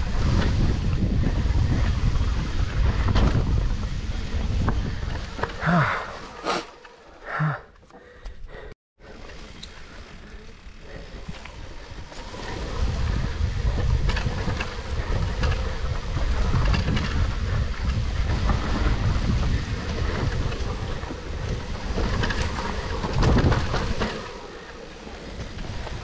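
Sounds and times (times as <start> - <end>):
wind buffeting microphone: 0.0 - 6.4, 9.4 - 26.0
bike rattling over bumps: 0.0 - 7.2, 9.0 - 26.0.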